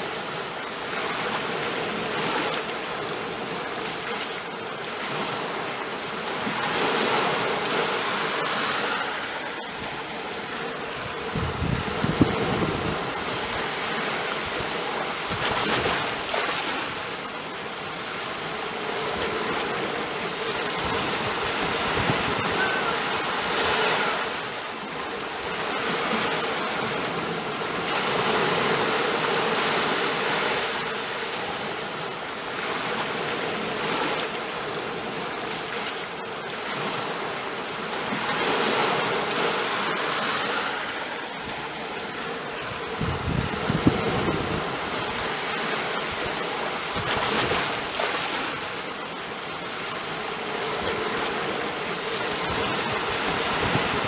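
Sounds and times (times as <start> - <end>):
sea waves washing onto shore: 0.0 - 54.0.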